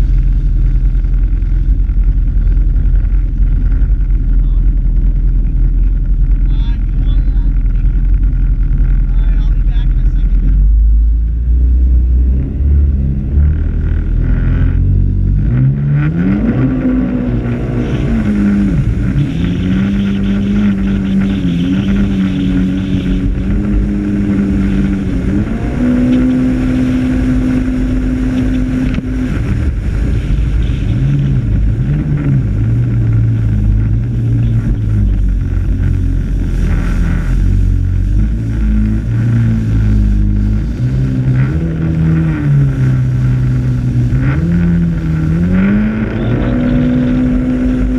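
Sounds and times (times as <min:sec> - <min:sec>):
jet ski engine revving: 0:00.0 - 0:47.9.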